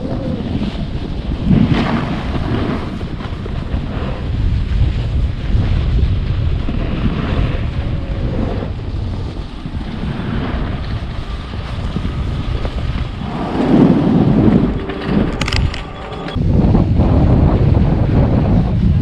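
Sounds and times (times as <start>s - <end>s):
snowboard carving over snow: 0.0s - 15.6s, 16.4s - 19.0s
wind buffeting microphone: 0.0s - 19.0s.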